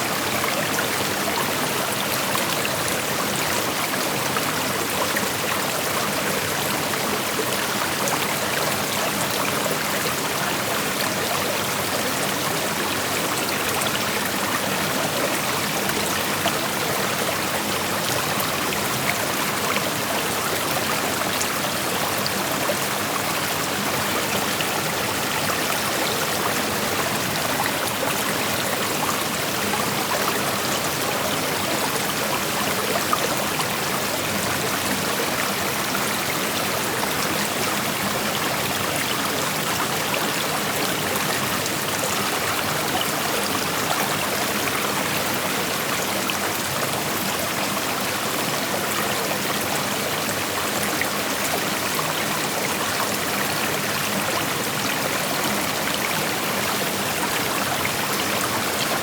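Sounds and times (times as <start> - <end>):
creek flowing over rocks: 0.0 - 59.0.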